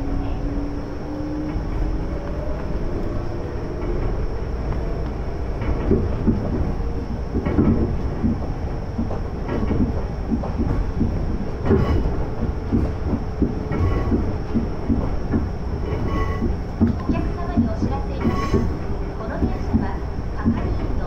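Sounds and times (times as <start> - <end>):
train running rumble: 0.0 - 21.0
wheels clacking over rail joints: 0.0 - 21.0.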